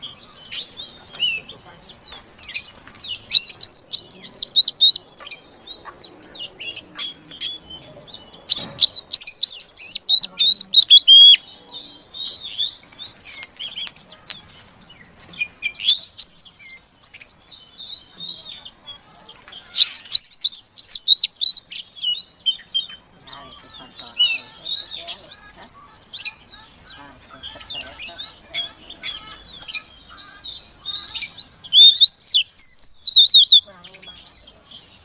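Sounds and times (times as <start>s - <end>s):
magpie-robin chirps and whistles: 0.0s - 35.0s.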